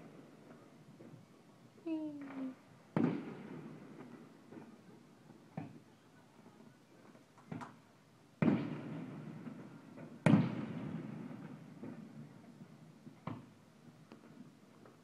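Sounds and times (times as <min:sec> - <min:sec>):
fireworks booming with echo: 0:00.0 - 0:01.3, 0:02.0 - 0:15.0
faint firework pops: 0:02.2 - 0:07.8, 0:08.4 - 0:15.0.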